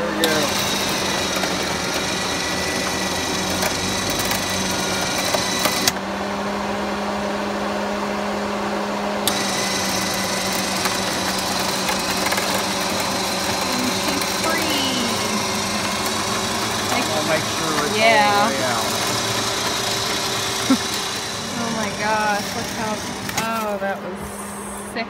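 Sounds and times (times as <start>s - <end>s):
electric winch whirring: 0.0s - 25.0s.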